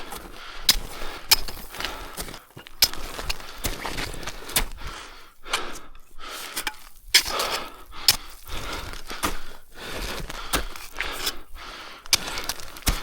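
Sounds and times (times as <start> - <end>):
boots crunching and gear knocking: 0.0 - 13.0
person breathing heavily: 0.0 - 13.0.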